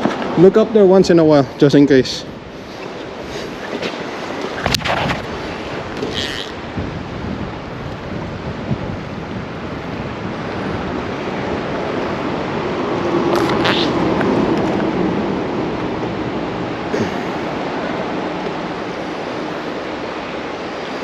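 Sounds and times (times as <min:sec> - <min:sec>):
flowing creek water: 0:00.0 - 0:21.0
wind on microphone: 0:02.2 - 0:21.0.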